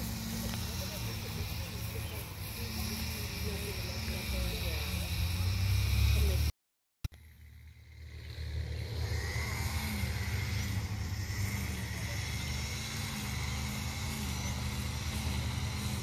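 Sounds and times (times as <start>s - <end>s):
string trimmer engine running: 0.0s - 6.5s, 7.1s - 16.0s.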